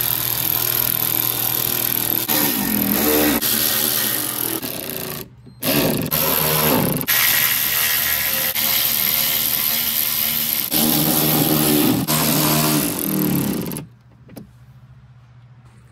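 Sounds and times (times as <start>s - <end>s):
cordless drill motor whining: 0.0s - 13.9s.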